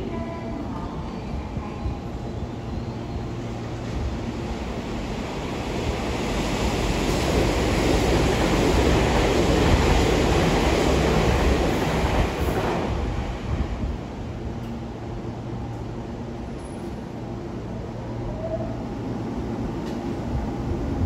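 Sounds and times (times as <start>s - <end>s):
train rushing past: 0.0s - 21.0s.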